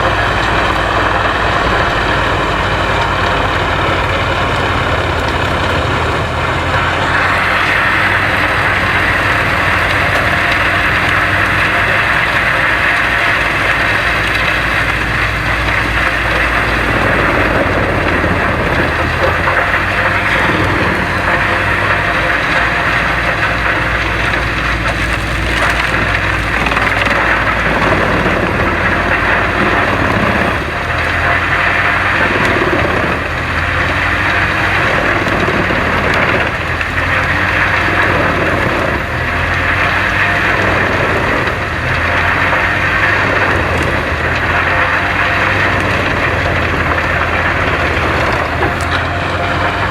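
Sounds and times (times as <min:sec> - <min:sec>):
woodchipper crunching wood: 0:00.0 - 0:49.9.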